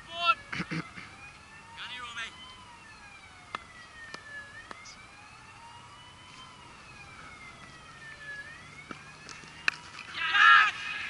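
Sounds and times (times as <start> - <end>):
emergency siren wailing: 0.0 - 11.0.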